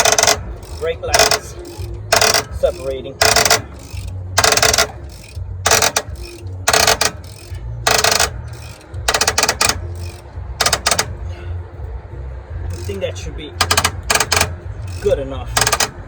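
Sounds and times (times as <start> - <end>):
metallic ratcheting clicks: 0.0 - 11.2, 12.7 - 16.0.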